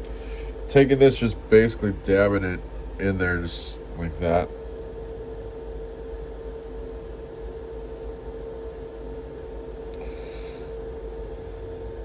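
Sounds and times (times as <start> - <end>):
room hum and hiss: 0.0 - 12.0.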